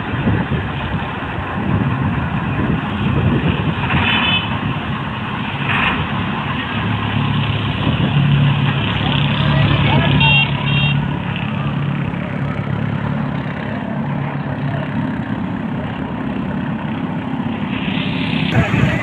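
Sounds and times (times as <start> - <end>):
diesel engine drone: 0.0 - 19.0.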